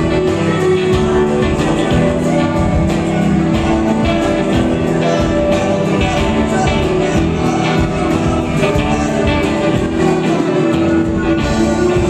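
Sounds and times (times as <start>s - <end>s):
drums with steady beat: 0.0s - 12.0s
electric guitar: 0.0s - 12.0s
person singing: 0.0s - 12.0s.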